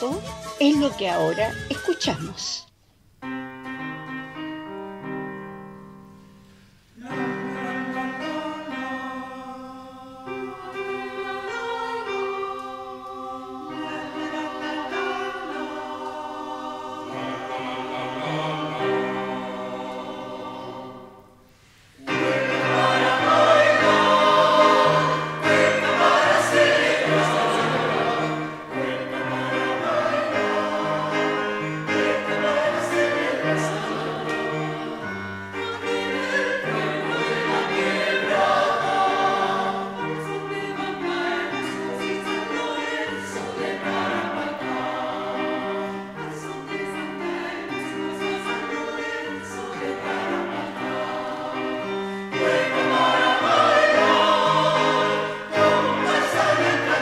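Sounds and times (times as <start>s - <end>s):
choir singing: 7.0s - 57.0s.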